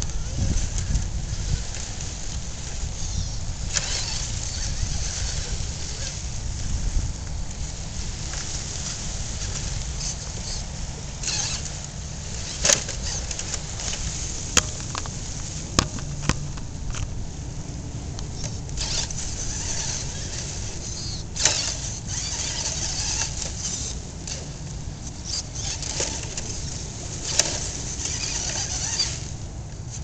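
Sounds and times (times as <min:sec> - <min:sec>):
toy car wheels clacking on rock: 0:00.0 - 0:06.3, 0:09.6 - 0:17.1, 0:18.3 - 0:30.0
wind on microphone: 0:00.0 - 0:30.0.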